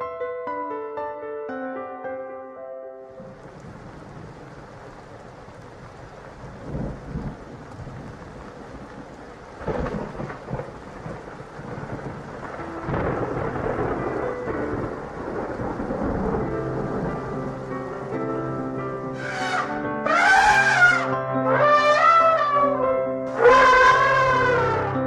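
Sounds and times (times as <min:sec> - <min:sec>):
steady rain: 0:03.1 - 0:25.0
rumbles of thunder: 0:03.2 - 0:21.1, 0:22.3 - 0:25.0.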